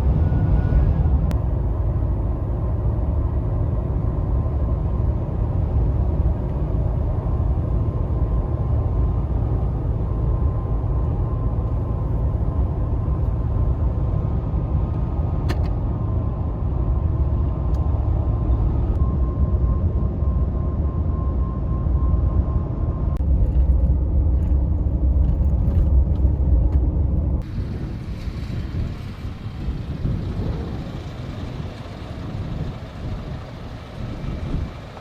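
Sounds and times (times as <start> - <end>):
truck engine and tyre noise: 0.0 - 35.0.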